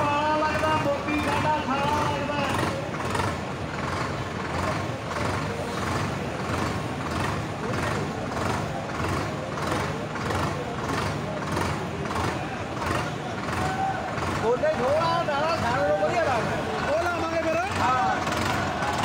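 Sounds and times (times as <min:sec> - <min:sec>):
tractor diesel engine pulsing: 0:00.0 - 0:19.0.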